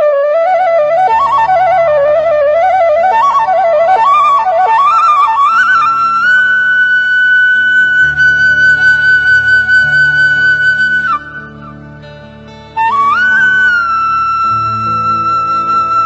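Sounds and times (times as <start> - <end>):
flute melody: 0.0 - 16.0
low sustained accompaniment: 0.0 - 16.0.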